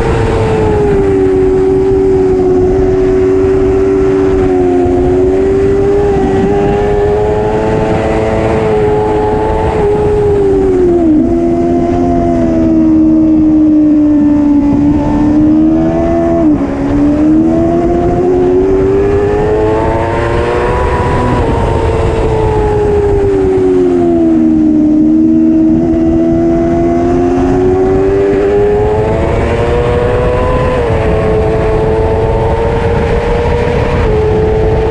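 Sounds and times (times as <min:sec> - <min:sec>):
motorbike engine at high revs: 0:00.0 - 0:34.9
wind rushing: 0:00.0 - 0:34.9.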